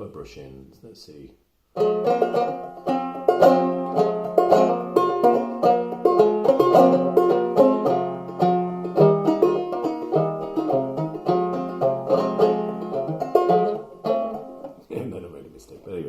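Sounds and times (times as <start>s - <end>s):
banjo plucked melody: 1.7s - 16.0s.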